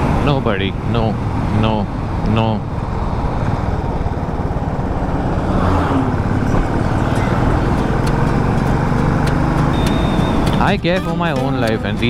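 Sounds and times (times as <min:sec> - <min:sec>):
wind rushing over microphone: 0:00.0 - 0:10.7
bus passing: 0:00.0 - 0:12.0
motorcycle engine running: 0:01.2 - 0:12.0.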